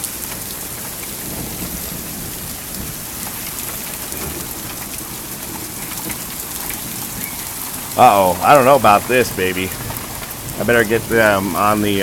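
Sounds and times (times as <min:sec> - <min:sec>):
hail pattering: 0:00.0 - 0:12.0.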